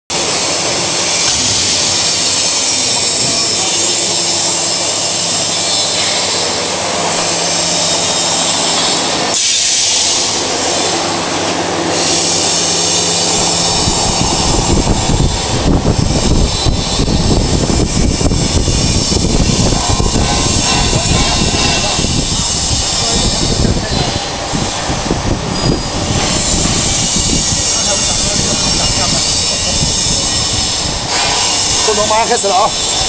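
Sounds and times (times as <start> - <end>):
machine motor hum: 0.1 - 33.0
machine hiss: 0.2 - 33.0
rough uneven machine rumble: 0.2 - 33.0.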